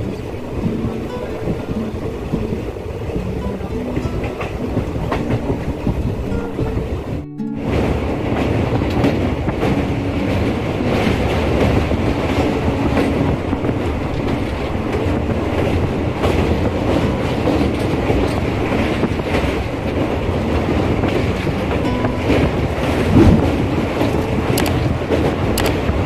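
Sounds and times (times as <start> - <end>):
train clickety-clack on bridge: 0.0 - 26.0
train wheels rumbling on rails: 0.0 - 26.0.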